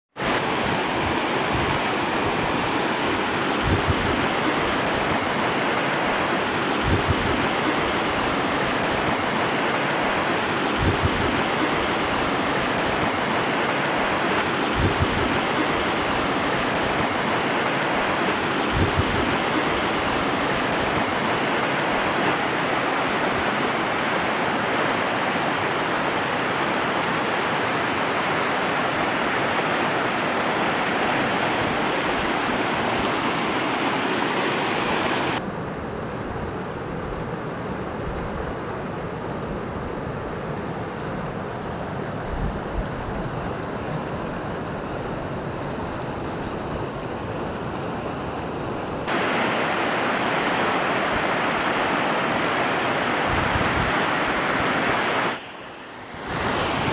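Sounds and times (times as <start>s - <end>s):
river rapids rushing: 0.1s - 35.4s, 43.2s - 56.9s.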